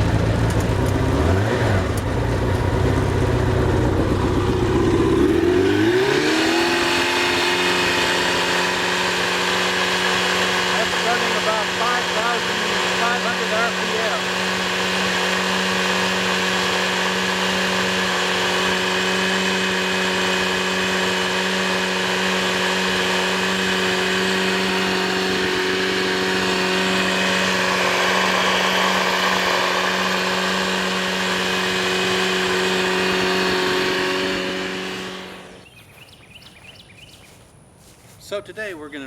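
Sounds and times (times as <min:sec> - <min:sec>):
engine running steadily: 0:00.0 - 0:38.2.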